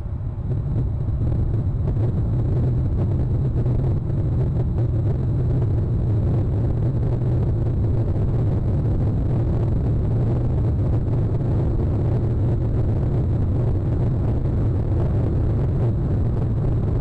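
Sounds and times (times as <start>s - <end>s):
motorboat engine rumbling: 0.0s - 17.0s.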